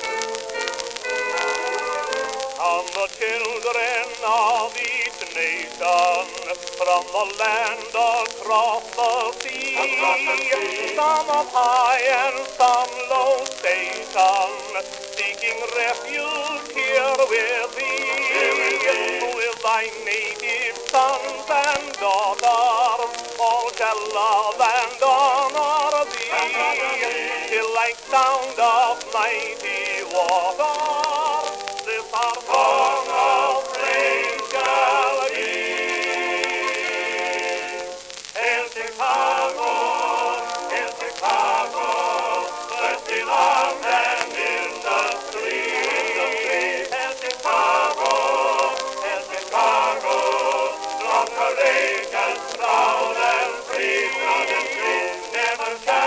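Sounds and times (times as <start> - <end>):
male vocal quartet singing: 1.8 - 56.0.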